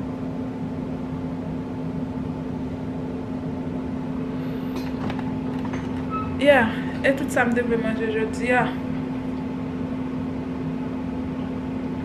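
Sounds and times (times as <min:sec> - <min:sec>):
machine hum with low tone: 0:00.0 - 0:12.0.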